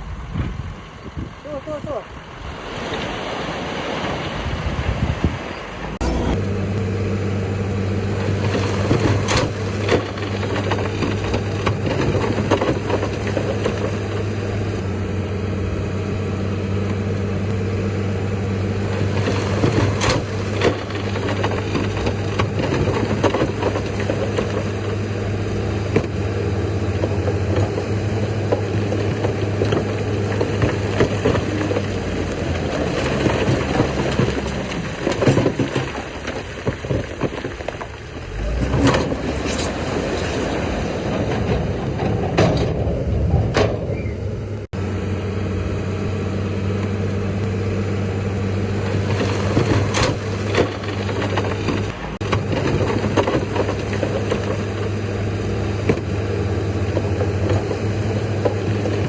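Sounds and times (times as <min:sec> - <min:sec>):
heavy diesel engine running: 0:05.6 - 0:59.0.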